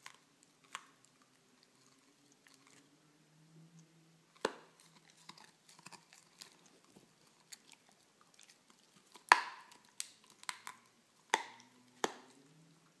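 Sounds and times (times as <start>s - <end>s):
dog crunching on bone: 0.0s - 2.9s, 4.3s - 12.5s.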